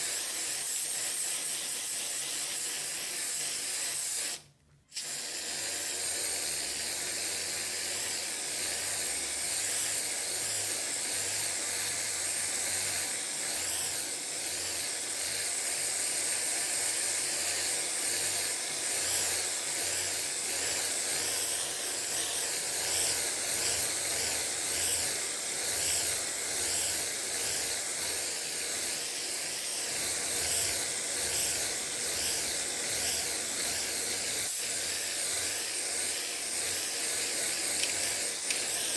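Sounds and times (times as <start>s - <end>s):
spray paint can hissing: 0.0s - 38.9s.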